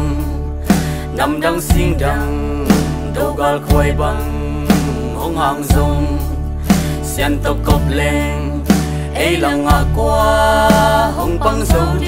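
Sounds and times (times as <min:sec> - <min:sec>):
person singing: 0:00.0 - 0:12.0
steady bass: 0:00.0 - 0:12.0.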